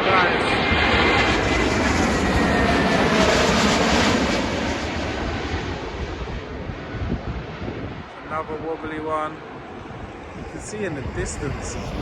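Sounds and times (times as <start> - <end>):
jet airliner passing close by: 0.0 - 12.0.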